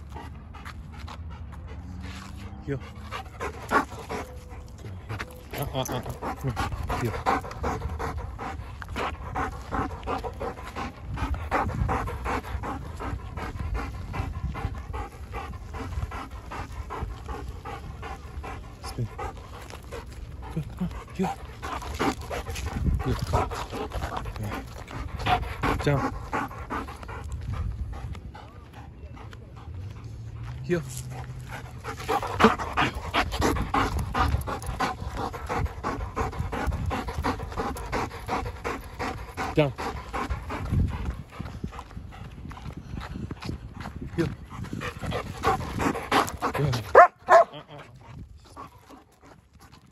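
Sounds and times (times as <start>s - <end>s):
dog panting: 0.0s - 49.9s.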